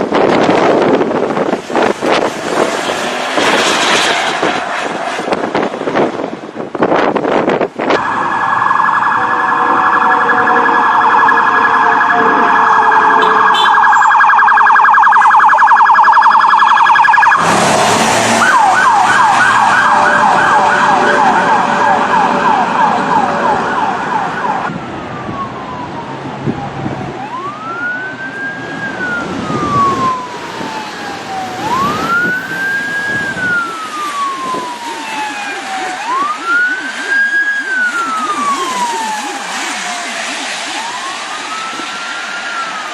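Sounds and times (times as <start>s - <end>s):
police siren: 0.0s - 42.9s
vehicle road noise: 0.0s - 42.9s.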